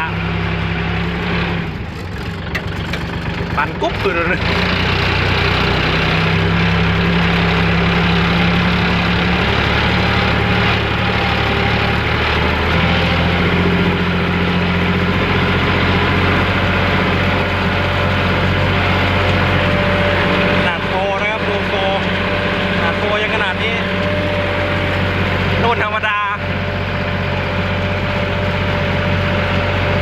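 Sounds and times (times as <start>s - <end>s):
heavy vehicle engine running: 0.0s - 30.0s.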